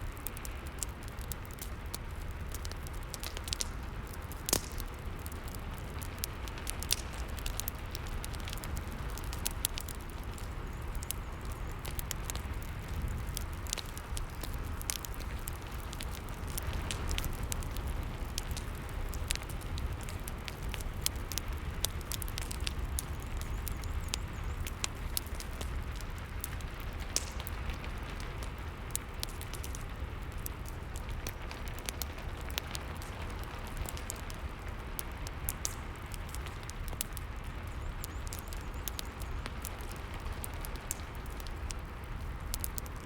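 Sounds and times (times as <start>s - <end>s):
fireplace crackling and popping: 0.0s - 43.0s.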